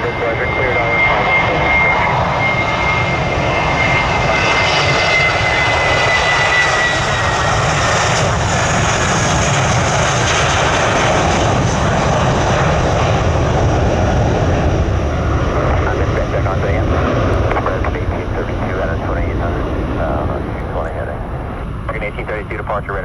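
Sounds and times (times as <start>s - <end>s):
aircraft engines running: 0.0s - 23.0s.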